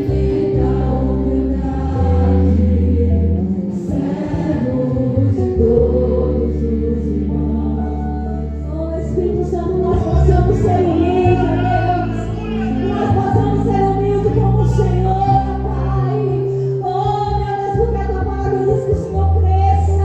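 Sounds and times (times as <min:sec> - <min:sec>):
low sustained instrumental backing: 0:00.0 - 0:20.0
women singing worship song: 0:00.0 - 0:20.0.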